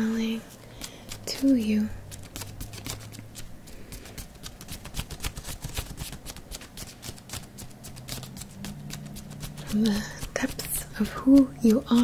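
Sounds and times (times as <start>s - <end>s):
feather fan fluttering swishes: 0.0s - 12.0s.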